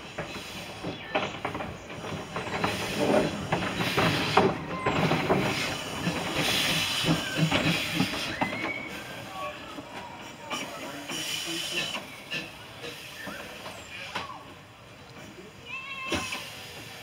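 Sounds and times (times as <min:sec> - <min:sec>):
steam hissing: 0:00.0 - 0:17.0
wheels clicking and knocking: 0:00.0 - 0:17.0.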